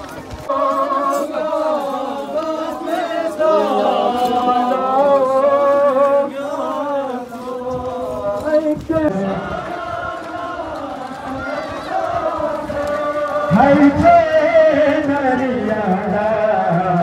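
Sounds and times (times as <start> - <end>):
men chanting in unison: 0.5 - 17.0.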